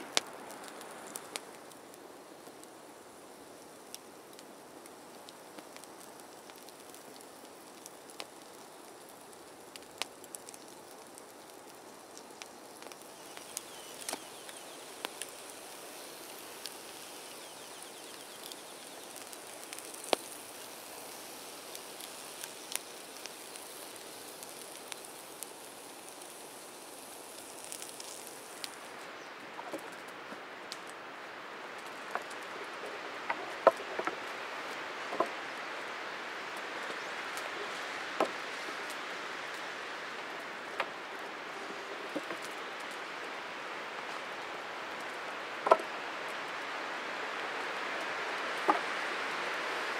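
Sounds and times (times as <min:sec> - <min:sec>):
campfire crackling and popping: 0:00.0 - 0:49.9
faint outdoor hiss: 0:00.0 - 0:49.9.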